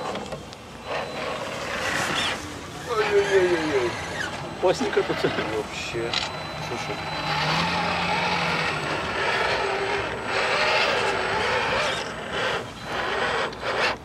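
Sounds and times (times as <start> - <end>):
electric motor and gearbox whining: 0.0 - 14.0.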